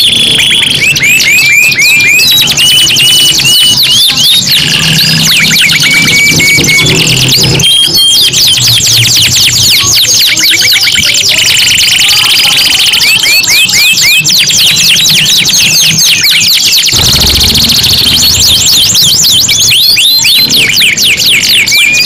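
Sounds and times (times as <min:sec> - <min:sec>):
canaries singing trills: 0:00.0 - 0:22.0.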